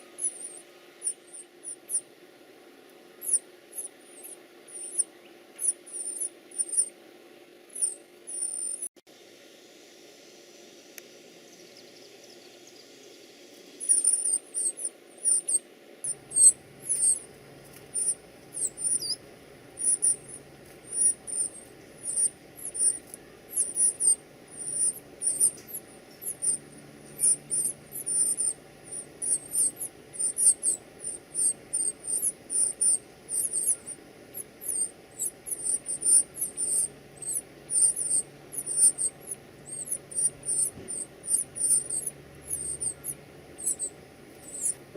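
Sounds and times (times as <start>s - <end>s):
nestling birds begging calls: 0.0s - 2.1s, 3.1s - 6.9s, 7.8s - 8.9s, 13.6s - 44.9s.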